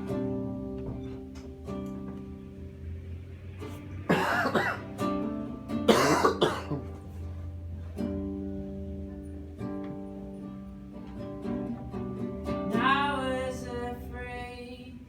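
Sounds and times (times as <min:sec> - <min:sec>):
acoustic guitar chord ringing: 0:00.0 - 0:14.9.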